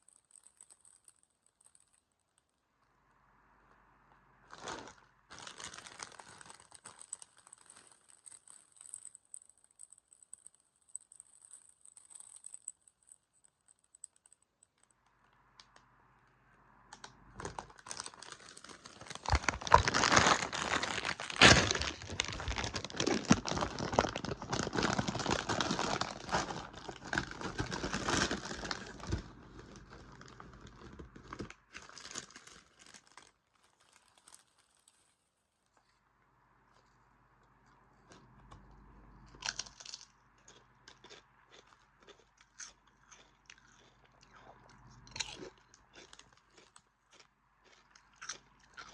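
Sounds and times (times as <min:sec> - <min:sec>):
crisp packet crinkling: 0:00.0 - 0:02.5, 0:04.5 - 0:15.8, 0:16.9 - 0:35.3, 0:39.4 - 0:48.9.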